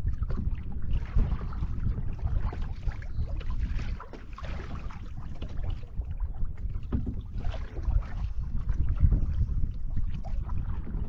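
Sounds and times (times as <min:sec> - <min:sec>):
water lapping against canoe: 0:00.0 - 0:11.0
wind buffeting microphone: 0:00.0 - 0:11.0.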